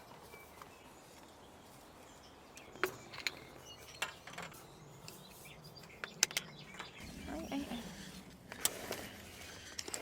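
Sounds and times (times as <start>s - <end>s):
faint outdoor hush: 0.0s - 10.0s.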